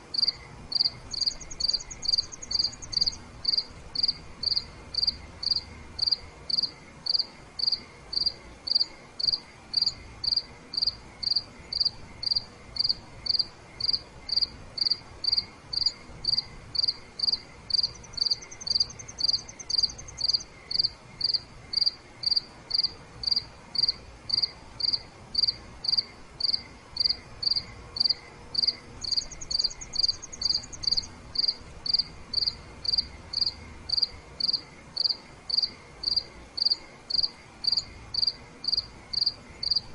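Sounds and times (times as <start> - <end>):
cricket chirping: 0.1 - 39.9
fainter high cricket trill: 0.1 - 39.9.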